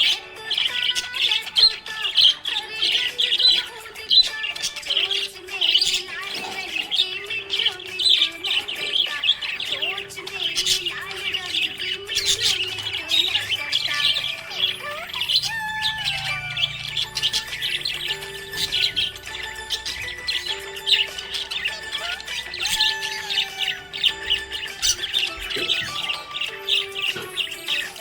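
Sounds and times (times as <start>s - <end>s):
budgerigars chirping and warbling: 0.0s - 28.0s.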